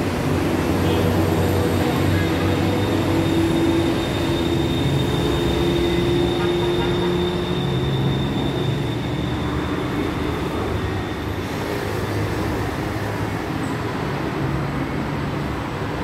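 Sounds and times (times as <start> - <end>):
train rumbling: 0.0 - 13.4.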